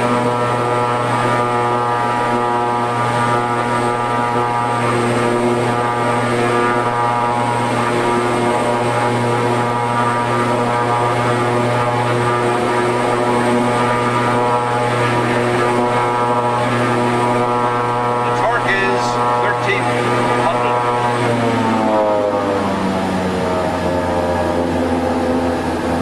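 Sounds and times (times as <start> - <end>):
turboprop engines humming: 0.0 - 26.0.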